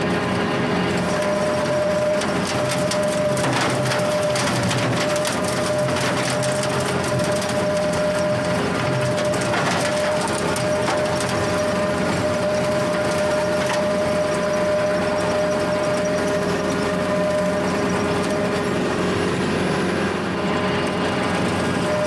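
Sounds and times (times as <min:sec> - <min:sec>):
tractor engine running: 0:00.0 - 0:22.0
rotary cutter cutting grass: 0:00.1 - 0:22.0.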